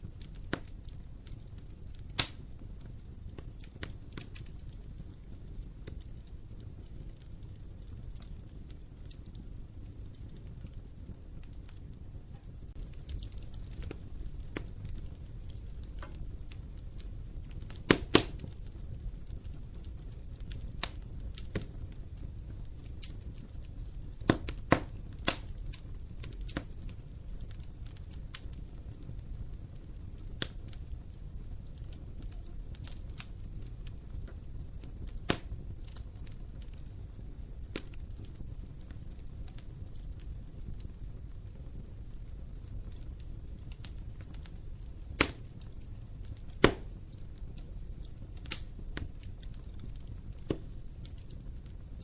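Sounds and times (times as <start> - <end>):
fire flames rumbling: 0.0 - 52.0
wood fire crackling and popping: 0.0 - 52.0.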